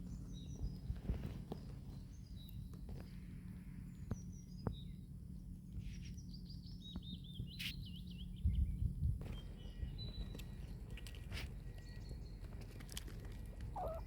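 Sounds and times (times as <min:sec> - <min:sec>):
small birds calling: 0:00.0 - 0:14.0.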